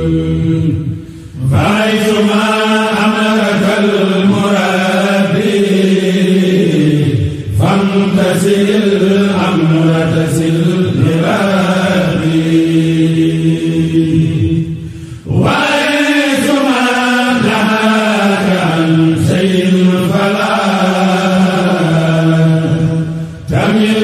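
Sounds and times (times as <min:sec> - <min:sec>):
person chanting religious poetry: 0:00.0 - 0:24.0.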